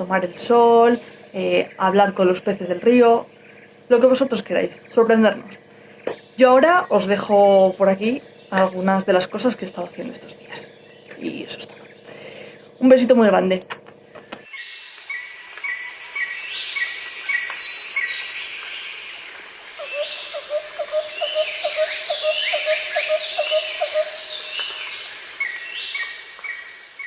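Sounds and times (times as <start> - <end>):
birds singing and chirping: 0.0 - 27.0.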